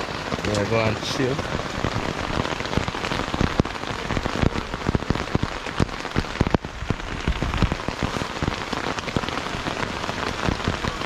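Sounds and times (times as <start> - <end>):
rain on tent fabric: 0.0 - 11.0.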